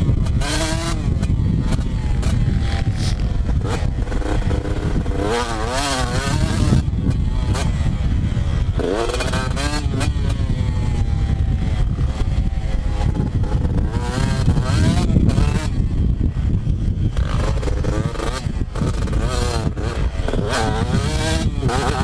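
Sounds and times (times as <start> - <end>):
heavy low rumble: 0.0 - 22.0
two-stroke dirt bike engine revving: 0.0 - 22.0.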